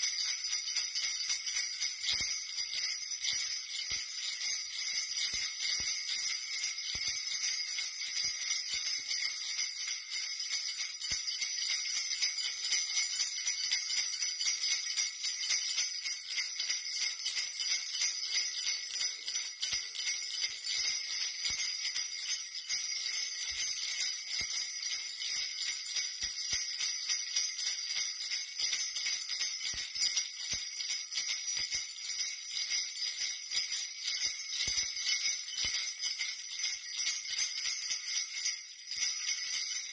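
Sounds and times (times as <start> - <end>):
jingle bells shaking: 0.0 - 39.9.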